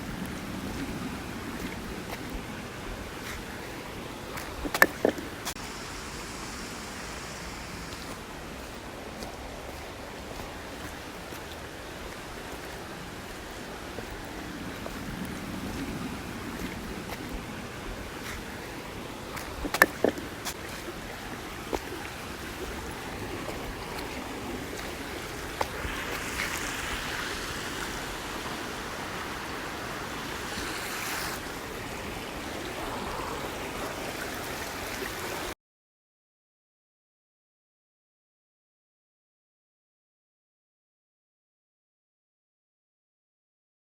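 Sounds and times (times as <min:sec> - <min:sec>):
stream water running: 0:00.0 - 0:35.6.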